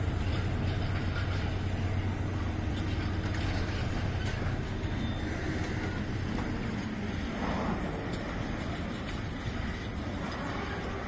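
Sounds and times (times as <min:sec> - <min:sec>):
freight train rumbling on rails: 0:00.0 - 0:11.0.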